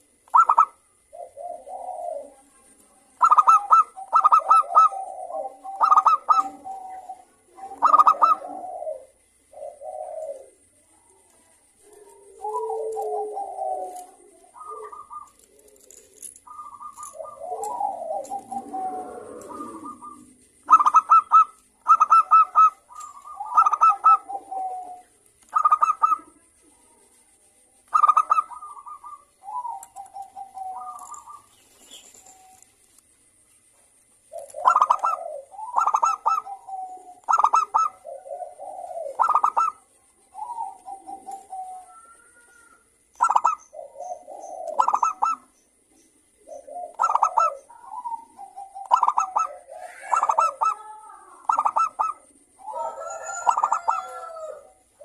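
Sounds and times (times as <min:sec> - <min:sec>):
dove cooing: 0:00.0 - 0:27.2, 0:27.9 - 0:55.0.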